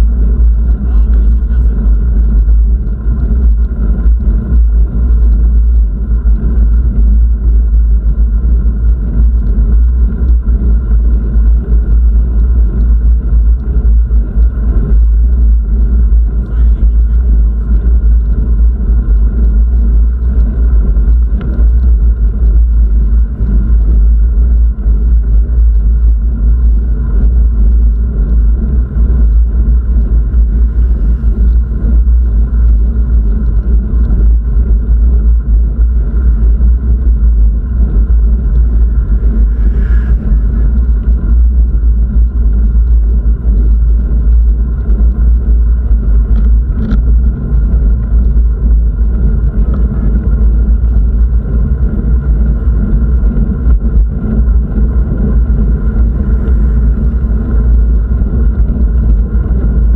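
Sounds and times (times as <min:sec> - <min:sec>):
wind and road noise rumble: 0:00.0 - 0:59.9.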